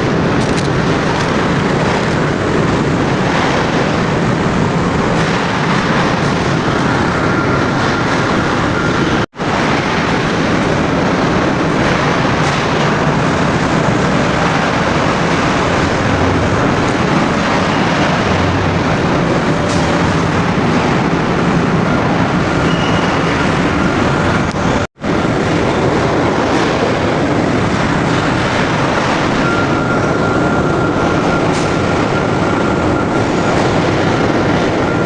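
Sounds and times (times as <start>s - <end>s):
car engine mechanical noise: 0.0s - 35.0s.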